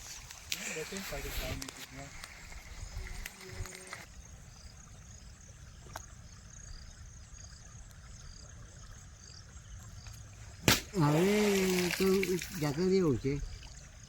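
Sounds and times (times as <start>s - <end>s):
high insect chirp: 0.0s - 14.0s.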